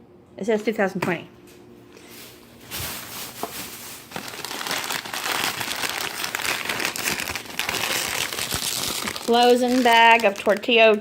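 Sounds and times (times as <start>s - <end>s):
plastic packaging crinkling: 1.9s - 11.0s.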